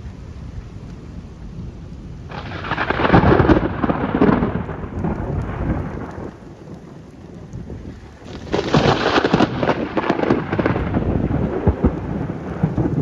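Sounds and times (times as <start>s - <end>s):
steady rain: 0.0s - 13.0s
thunderclap with rumbling: 2.2s - 13.0s.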